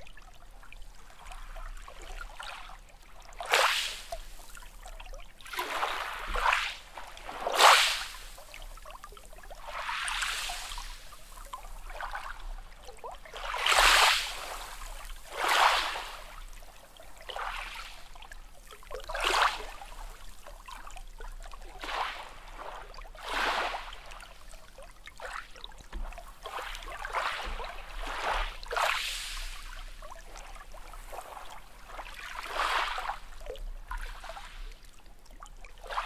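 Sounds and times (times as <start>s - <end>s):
small waves lapping and splashing: 0.0s - 36.0s.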